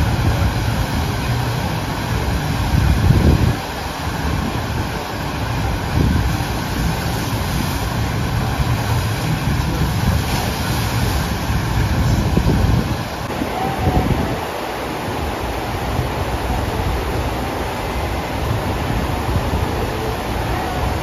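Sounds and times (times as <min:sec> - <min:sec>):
rushing water wave: 0:00.0 - 0:21.0
wind buffeting microphone: 0:00.0 - 0:21.0.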